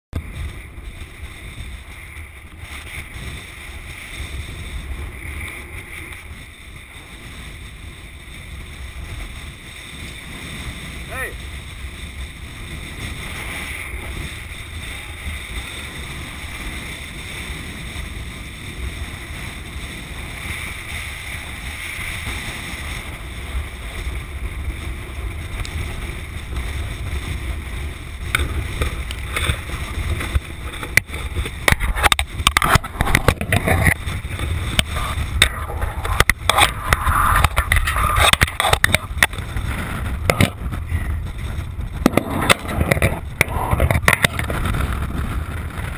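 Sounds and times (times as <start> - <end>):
wind buffeting microphone: 0.1 - 45.9.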